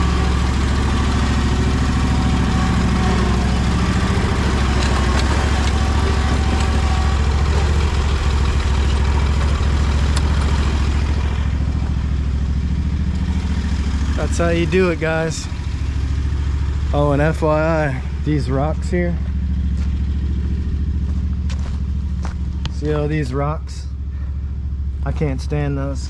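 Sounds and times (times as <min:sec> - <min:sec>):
mower engine running: 0:00.0 - 0:26.0.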